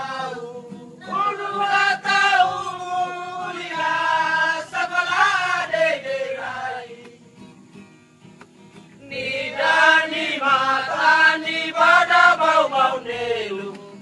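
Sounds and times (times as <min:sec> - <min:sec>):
men singing together: 0:00.0 - 0:07.2, 0:09.0 - 0:14.0.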